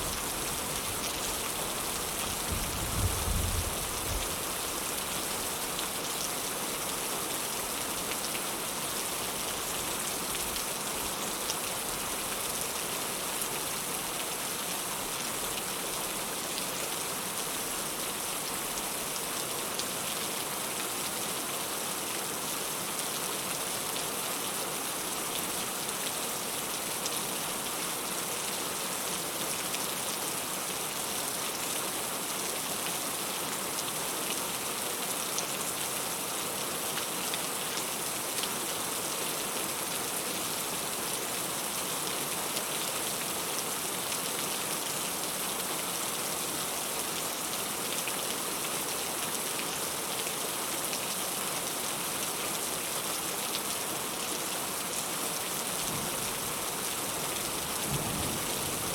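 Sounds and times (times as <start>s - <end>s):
heavy rain falling: 0.0s - 22.1s, 23.0s - 58.9s.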